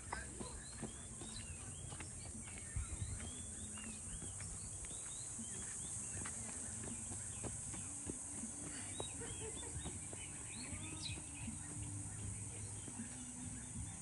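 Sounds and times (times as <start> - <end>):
high insect drone: 0.0 - 14.0
small birds chirping: 0.0 - 14.0.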